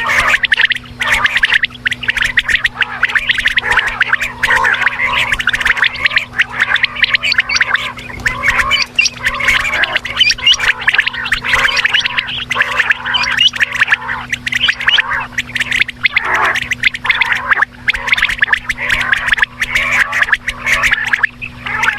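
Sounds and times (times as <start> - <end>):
quail chirping rapidly: 0.0 - 21.9
steady low hum: 0.0 - 21.9.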